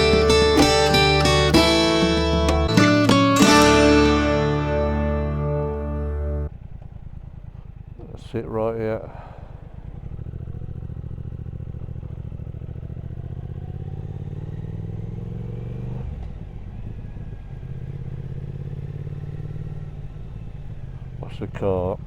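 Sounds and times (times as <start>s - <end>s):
motorcycle engine accelerating: 0.0s - 8.4s, 9.2s - 21.2s.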